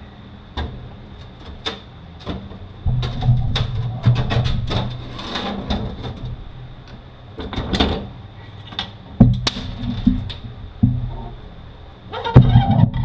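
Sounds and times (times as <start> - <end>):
metal clunks and scraping: 0.0 - 13.0.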